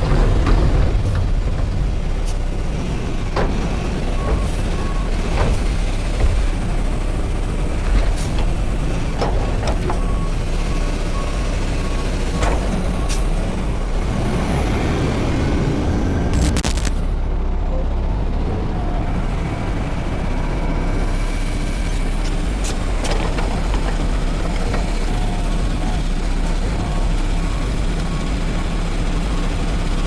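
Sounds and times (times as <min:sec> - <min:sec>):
garbage truck engine running: 0:00.0 - 0:30.0.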